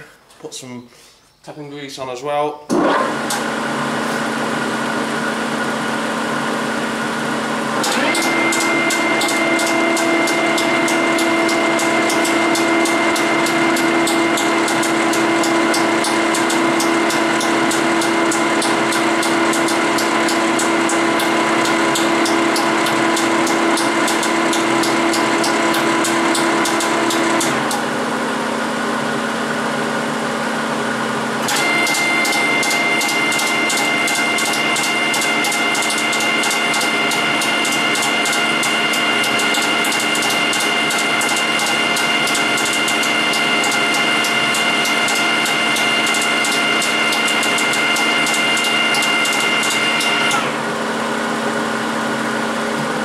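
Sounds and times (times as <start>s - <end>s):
lathe mechanical hum: 3.0s - 53.0s.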